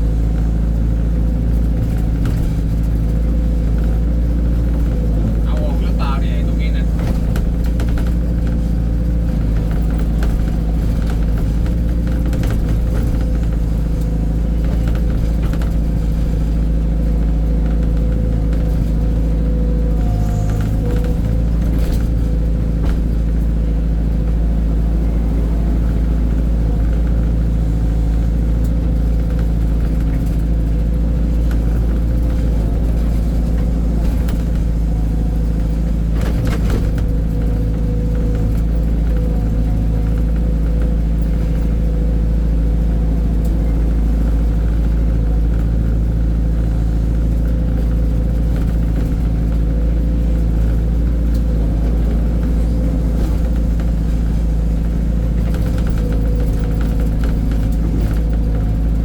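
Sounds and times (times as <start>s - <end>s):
heavy diesel engine running: 0.0s - 59.0s
machinery knocks and clatters: 0.2s - 59.0s.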